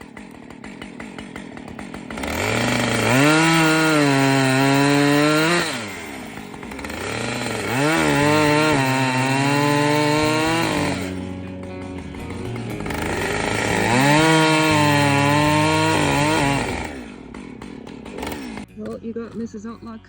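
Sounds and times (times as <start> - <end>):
chainsaw idling and revving: 0.0 - 19.0.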